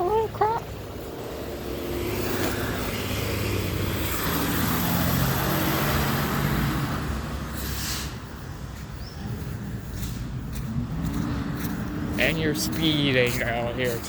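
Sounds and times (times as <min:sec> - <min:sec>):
vehicle driving past: 0:01.2 - 0:14.0.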